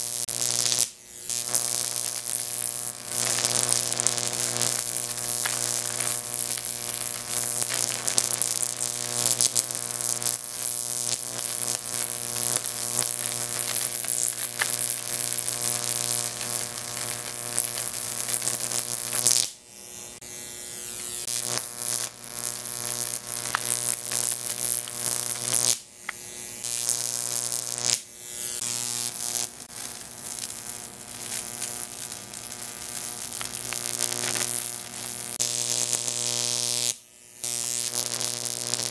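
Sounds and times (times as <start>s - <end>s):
electric arc buzzing and crackling: 0.0s - 38.9s.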